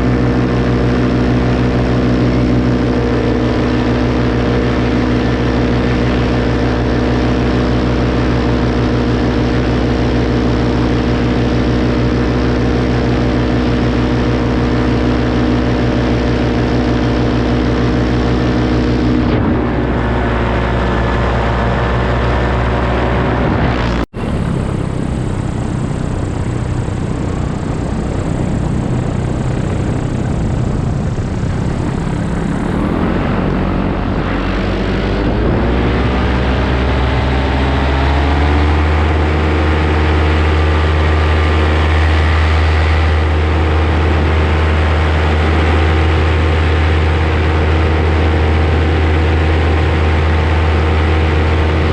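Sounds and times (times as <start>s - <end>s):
paramotor engine and propeller: 0.0s - 51.9s.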